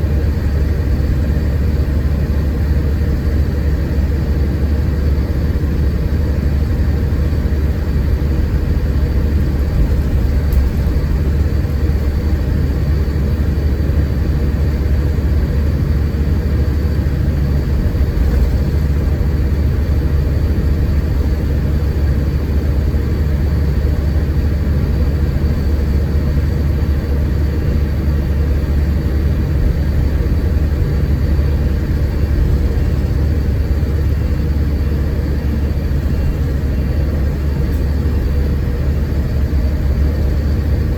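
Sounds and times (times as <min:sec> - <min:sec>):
diesel engine rumbling: 0:00.0 - 0:40.9
road and tyre noise: 0:00.0 - 0:40.9.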